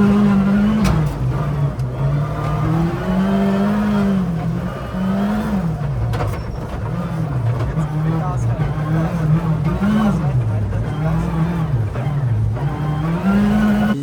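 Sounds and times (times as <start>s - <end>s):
rally car engine revving hard: 0.0s - 14.0s.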